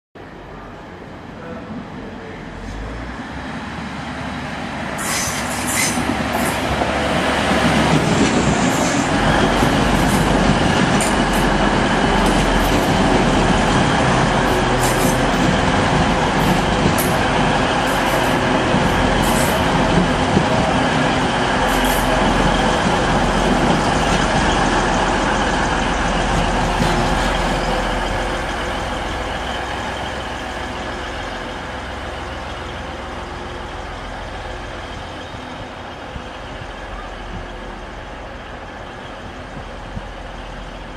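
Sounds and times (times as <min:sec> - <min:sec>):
diesel train passing: 0:00.2 - 0:40.9.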